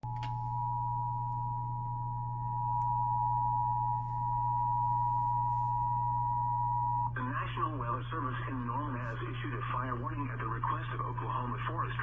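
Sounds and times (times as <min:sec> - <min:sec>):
low constant hum: 0:00.0 - 0:12.0.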